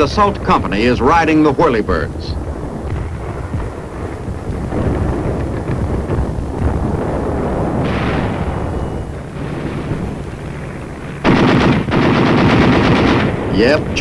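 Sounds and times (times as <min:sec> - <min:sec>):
rumble of gunfire: 0:00.0 - 0:14.0
rapid machine-gun shots: 0:01.4 - 0:14.0.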